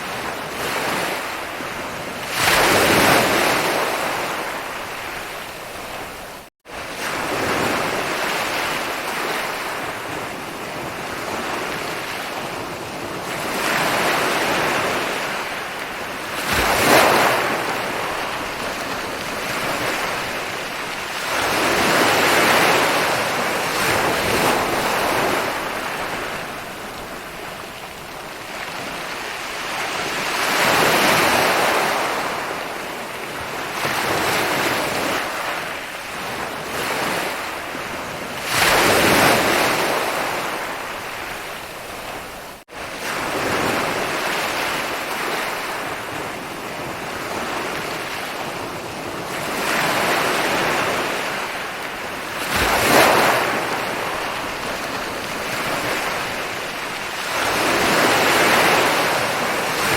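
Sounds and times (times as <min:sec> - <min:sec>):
ocean waves breaking on a beach: 0:00.0 - 0:59.9.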